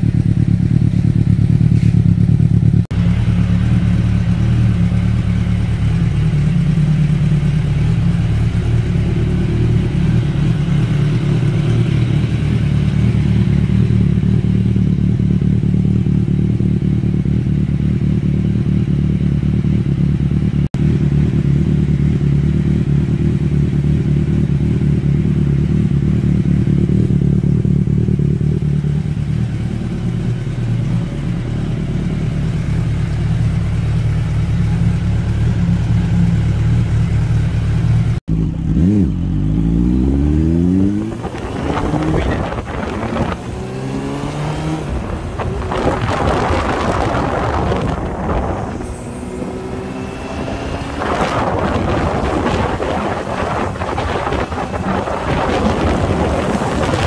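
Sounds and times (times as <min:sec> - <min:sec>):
motorcycle engine: 0:00.0 - 0:57.0
road and wind noise: 0:00.0 - 0:57.0.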